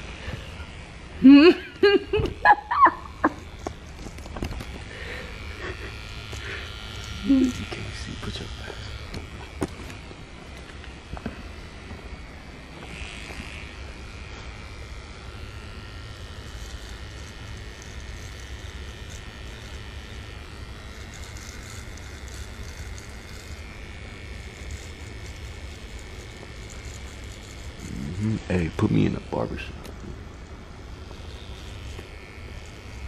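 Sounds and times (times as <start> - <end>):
hair trimmer cutting beard: 0.0 - 33.0.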